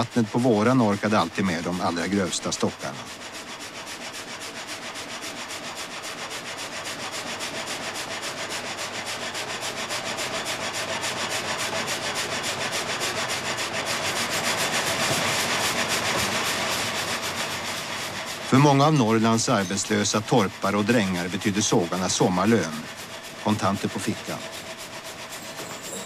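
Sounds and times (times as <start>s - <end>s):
frame saw rasping through log: 0.0s - 26.0s.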